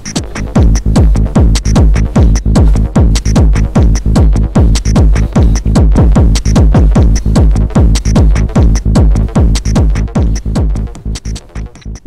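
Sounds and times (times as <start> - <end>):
hi-hat ticks: 0.0 - 12.0
techno kick drum: 0.0 - 12.0.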